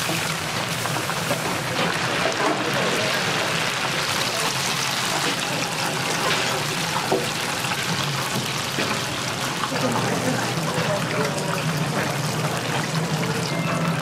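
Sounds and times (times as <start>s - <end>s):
oil sizzling in deep fryer: 0.0s - 14.0s.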